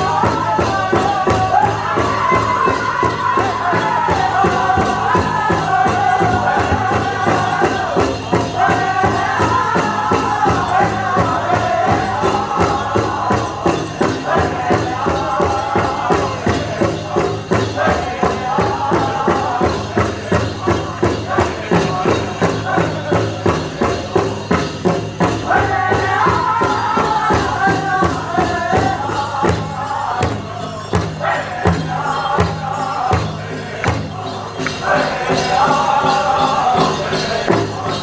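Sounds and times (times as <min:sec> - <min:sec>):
big drum steady beat: 0:00.0 - 0:38.0
drum group singing: 0:00.0 - 0:38.0.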